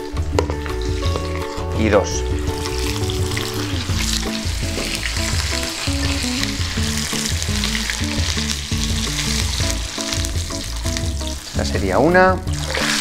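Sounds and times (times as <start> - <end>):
light background music: 0.0 - 13.0.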